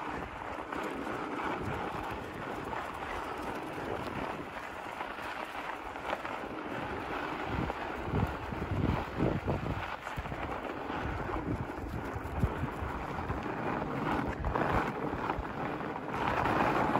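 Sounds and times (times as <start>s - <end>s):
bike tyres rolling on snow: 0.0s - 16.9s
wind buffeting microphone: 0.0s - 16.9s.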